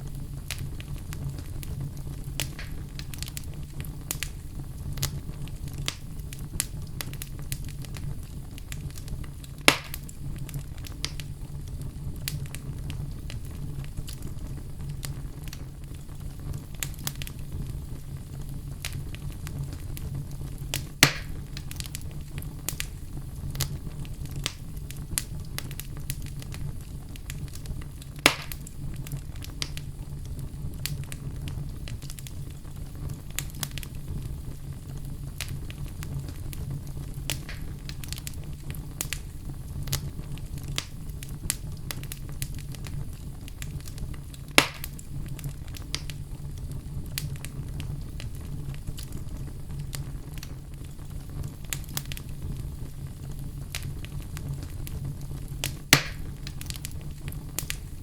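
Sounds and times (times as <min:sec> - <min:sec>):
fire pops: 0:00.0 - 0:58.0
wood fire crackling: 0:00.0 - 0:58.0.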